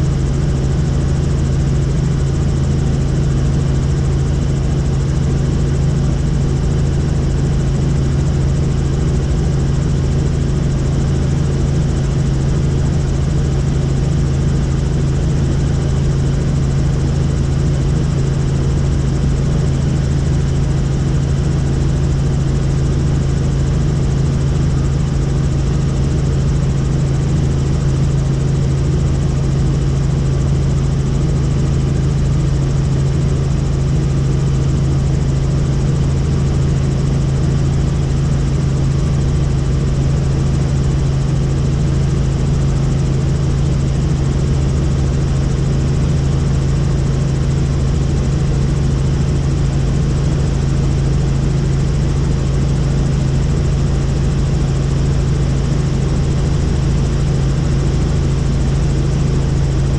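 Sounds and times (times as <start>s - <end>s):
helicopter turbine and rotor drone: 0.0s - 59.9s.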